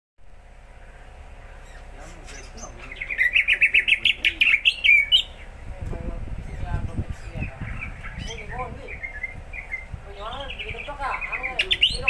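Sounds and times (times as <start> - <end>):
bird chirping rapidly: 0.7 - 5.7, 6.3 - 12.0.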